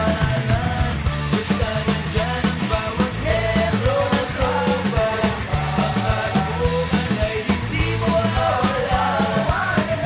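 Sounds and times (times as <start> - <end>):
song with fast drum beat: 0.0 - 10.0.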